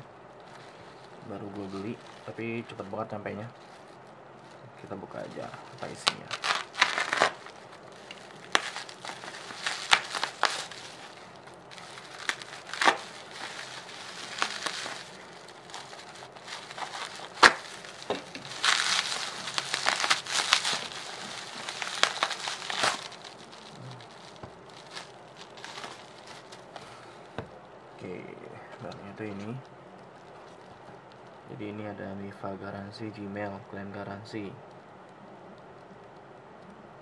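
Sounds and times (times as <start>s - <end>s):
bubble wrap crinkling: 0.0s - 31.8s.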